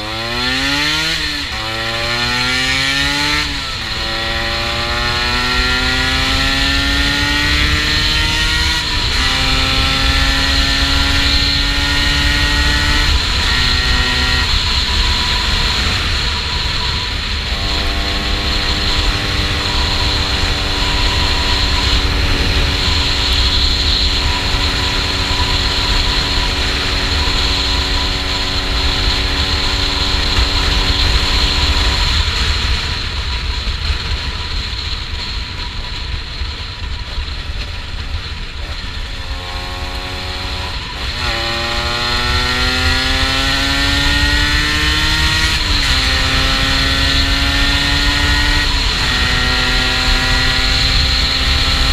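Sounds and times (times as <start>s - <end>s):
motorcycle engine accelerating: 0.0s - 51.9s
wind rumble on microphone: 0.0s - 51.9s.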